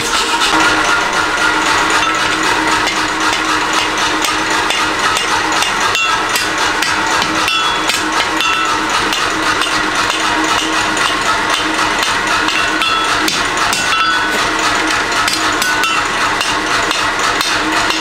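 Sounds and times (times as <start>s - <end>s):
steady hum: 0.0s - 18.0s
hammer striking metal on anvil: 0.5s - 18.0s.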